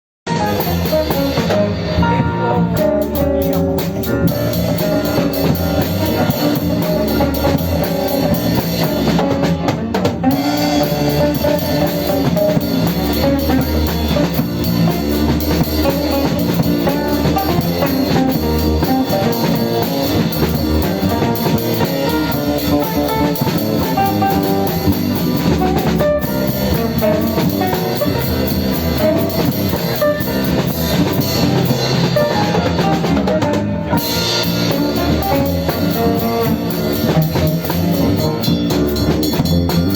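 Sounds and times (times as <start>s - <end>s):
music with drums and guitar: 0.3s - 39.9s.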